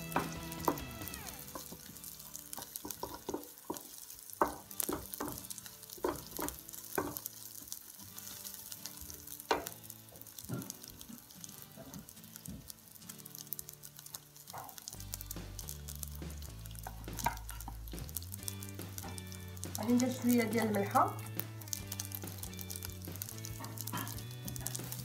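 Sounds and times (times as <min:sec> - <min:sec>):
rice sizzling in a frying pan: 0:00.0 - 0:25.0
wooden spatula scraping a pan: 0:00.0 - 0:25.0.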